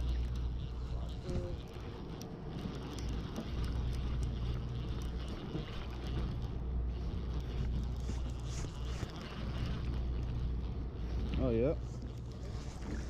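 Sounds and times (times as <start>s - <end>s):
boat engine droning: 0.0s - 13.0s
water noise: 0.0s - 13.0s
wind: 0.0s - 13.0s.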